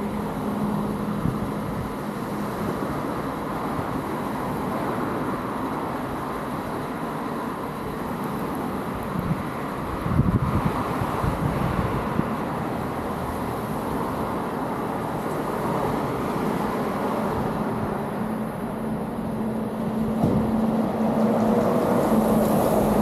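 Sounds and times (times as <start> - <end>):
engine hum: 0.0 - 23.0
road traffic rumble: 0.0 - 23.0.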